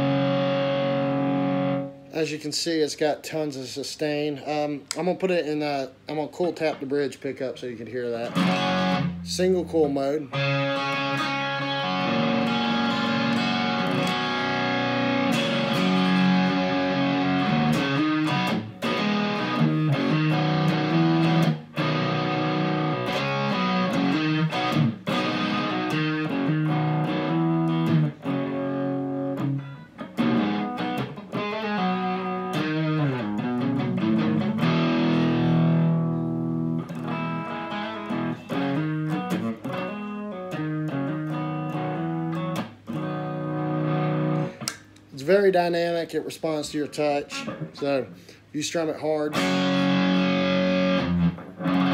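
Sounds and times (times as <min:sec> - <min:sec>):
overdriven electric guitar: 0:00.0 - 0:02.1, 0:08.2 - 0:45.1, 0:47.2 - 0:48.5, 0:49.1 - 0:51.9.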